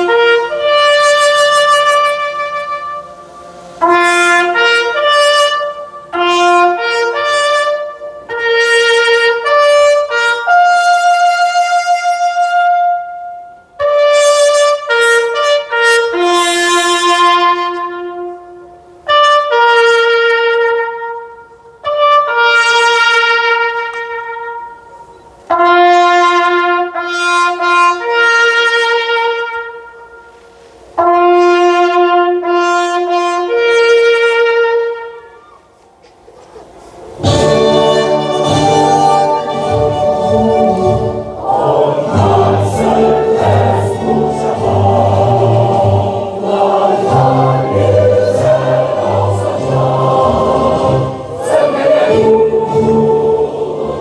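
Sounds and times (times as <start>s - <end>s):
solo trumpet call: 0.0s - 35.9s, 37.2s - 53.2s.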